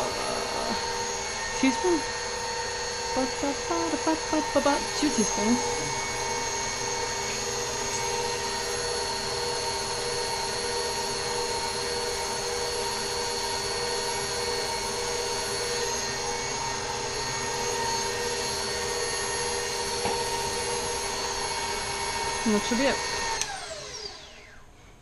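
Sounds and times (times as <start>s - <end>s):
stand mixer motor whine: 0.0s - 24.8s.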